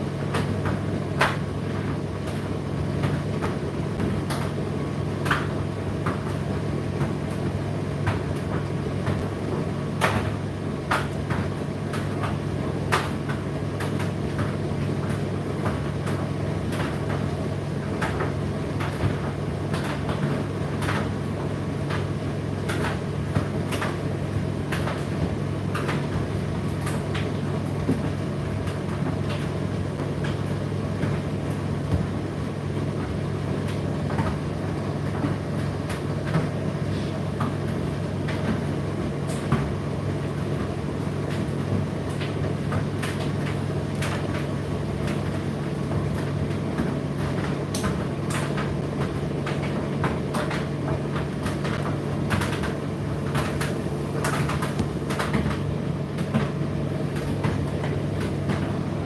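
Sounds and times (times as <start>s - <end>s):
tumble dryer motor hum: 0.0s - 59.0s.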